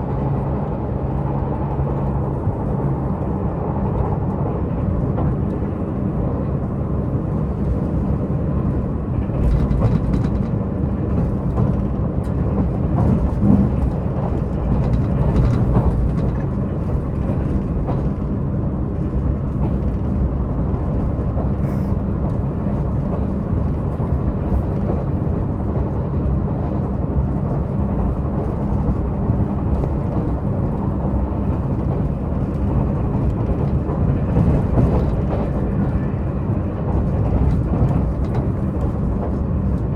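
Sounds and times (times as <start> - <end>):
wheel-on-rail rumble: 0.0 - 39.9.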